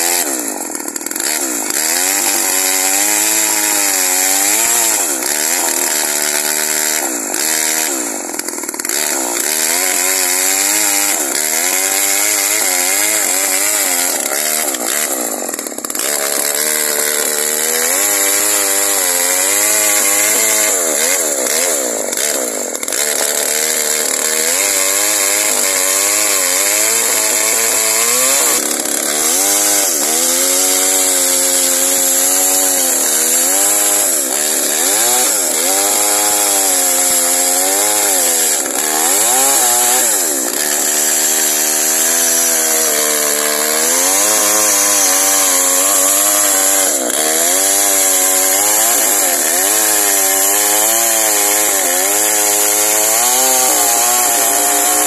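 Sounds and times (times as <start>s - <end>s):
chainsaw cutting a log: 0.0s - 55.0s.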